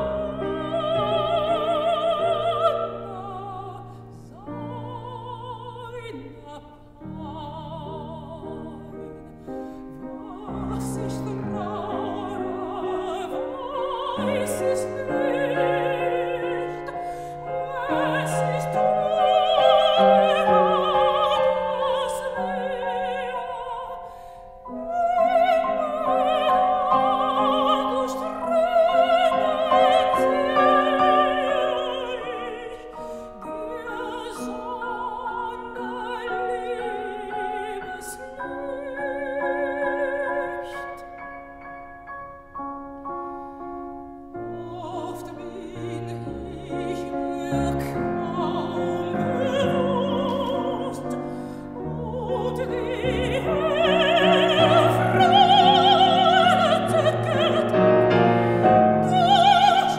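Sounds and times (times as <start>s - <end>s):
grand piano chords: 0.0s - 59.9s
soprano singing with vibrato: 0.0s - 59.9s.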